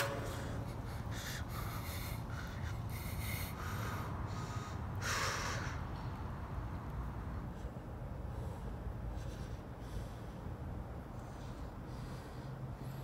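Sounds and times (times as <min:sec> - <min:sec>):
low background rumble: 0:00.0 - 0:13.0
man breathing heavily: 0:00.0 - 0:13.0.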